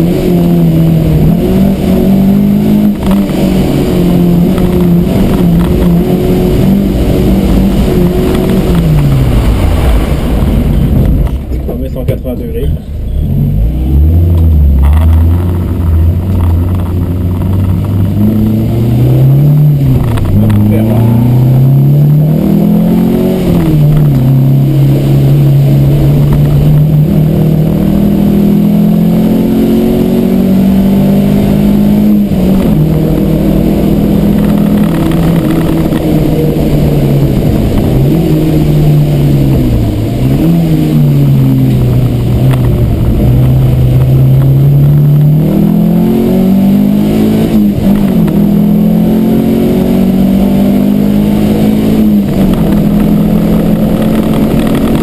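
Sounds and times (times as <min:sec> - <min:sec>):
car engine revving from inside cabin: 0:00.0 - 0:09.6, 0:13.2 - 0:55.0.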